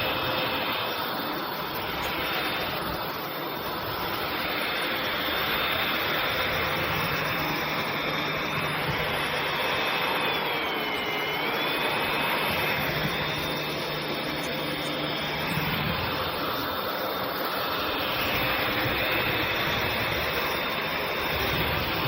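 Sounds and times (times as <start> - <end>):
stick vacuum running: 0.0 - 22.0.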